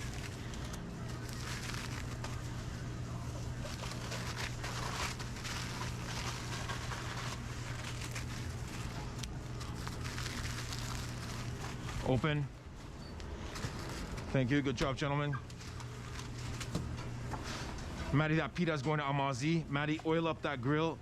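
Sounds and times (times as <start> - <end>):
kitchen equipment hum: 0.0 - 21.0.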